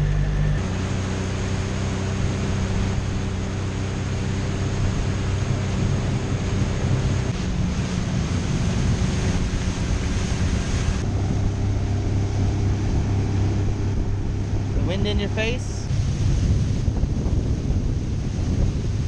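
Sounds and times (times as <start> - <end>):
motorboat engine running: 0.0 - 19.0
water rushing past hull: 0.0 - 19.0
wind buffeting microphone: 0.0 - 19.0.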